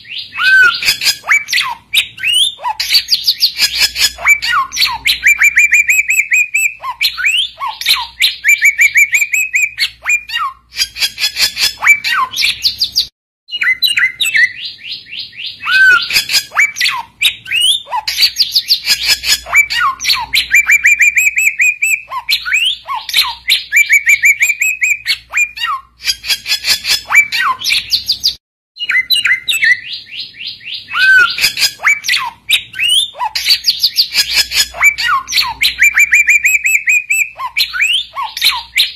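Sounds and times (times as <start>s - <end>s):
bird chattering trills and whistles: 0.1s - 38.9s.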